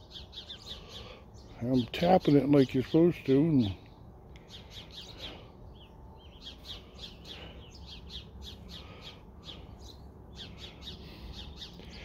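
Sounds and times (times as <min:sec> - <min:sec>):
low background noise: 0:00.0 - 0:12.0
small birds chirping: 0:00.0 - 0:12.0.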